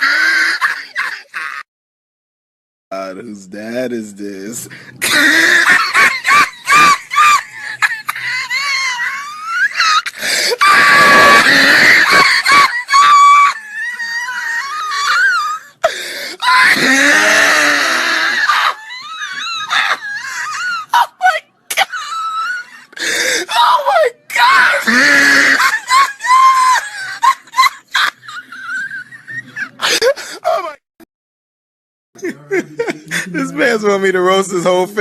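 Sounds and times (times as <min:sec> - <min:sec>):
person laughing hysterically: 0:00.0 - 0:01.6, 0:05.0 - 0:30.8, 0:32.2 - 0:33.7.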